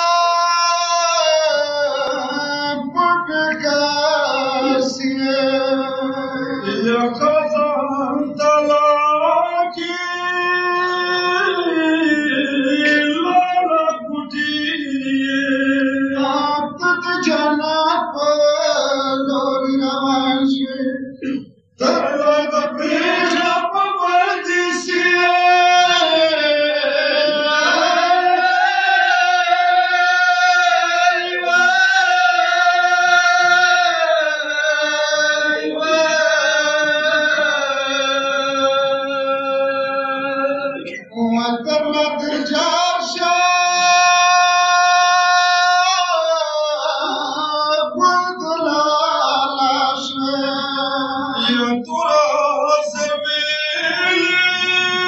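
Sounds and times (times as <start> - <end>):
person singing a lament: 0.0 - 55.0.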